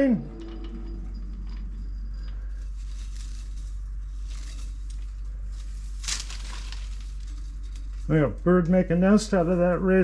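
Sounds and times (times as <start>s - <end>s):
low machine hum: 0.0s - 10.0s
faint crackling and rustling: 0.5s - 10.0s.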